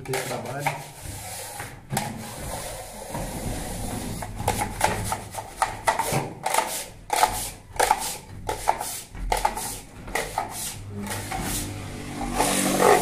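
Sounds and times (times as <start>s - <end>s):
trowel scraping plaster: 0.0s - 13.0s.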